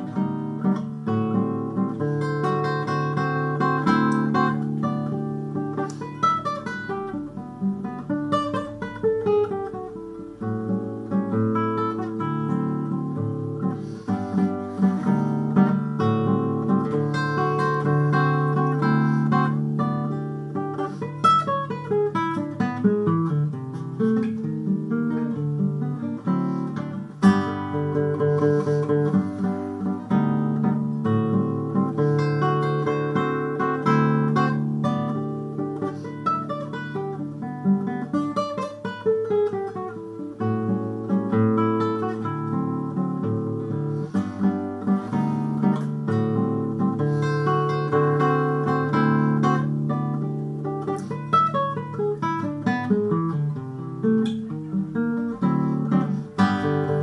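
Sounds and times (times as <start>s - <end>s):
acoustic guitar piece: 0.0s - 57.0s.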